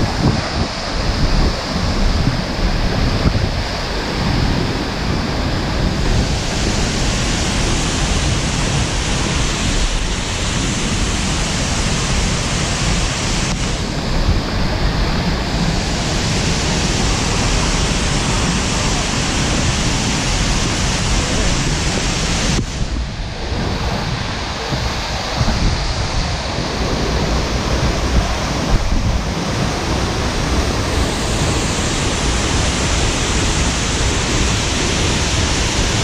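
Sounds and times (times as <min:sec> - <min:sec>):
waterfall rushing: 0:00.0 - 0:36.0
wind buffeting microphone: 0:00.0 - 0:36.0.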